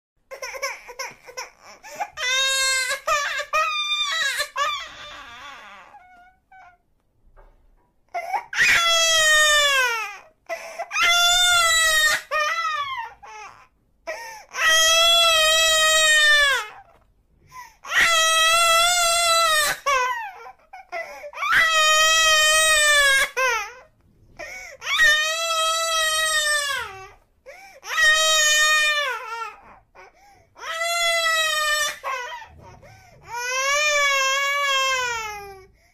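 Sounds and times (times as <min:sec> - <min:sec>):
baby crying: 0:00.3 - 0:06.8, 0:08.1 - 0:17.0, 0:17.8 - 0:27.2, 0:27.8 - 0:35.7.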